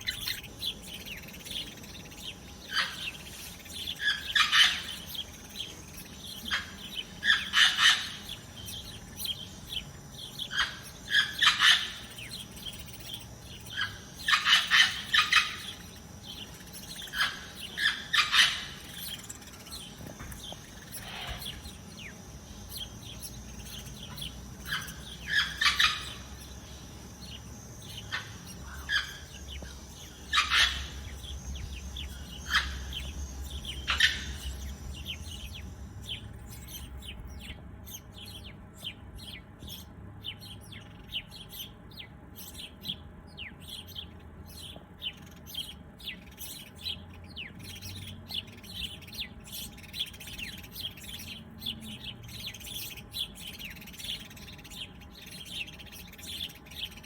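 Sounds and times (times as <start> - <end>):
small songbirds chirping: 0.0 - 57.0.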